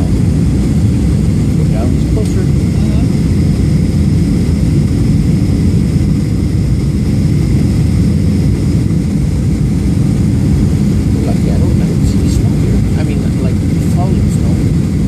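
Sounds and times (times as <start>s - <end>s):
airplane cabin jet engine rush: 0.0s - 15.0s
faint high whine: 0.0s - 15.0s.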